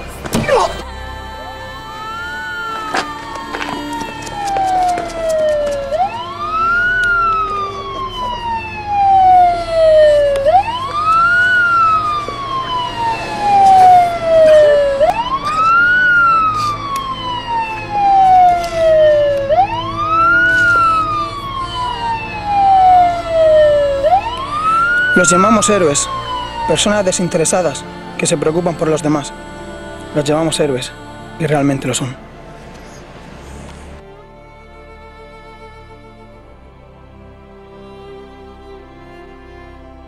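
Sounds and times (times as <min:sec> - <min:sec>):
emergency vehicle siren wailing: 0:00.0 - 0:36.2.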